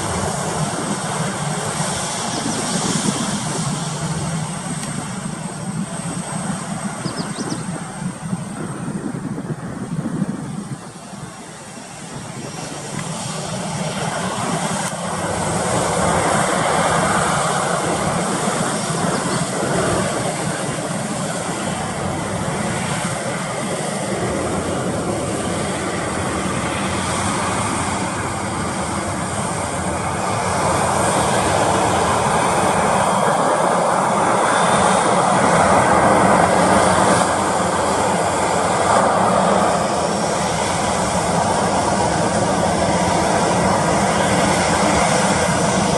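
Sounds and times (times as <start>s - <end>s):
jet engines at take-off: 0.0s - 45.9s.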